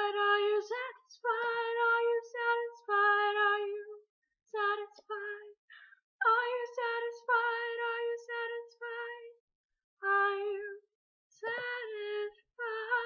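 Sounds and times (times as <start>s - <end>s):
woman singing unaccompanied: 0.0s - 4.0s, 4.6s - 5.6s, 6.2s - 9.4s, 10.0s - 10.8s, 11.4s - 13.0s.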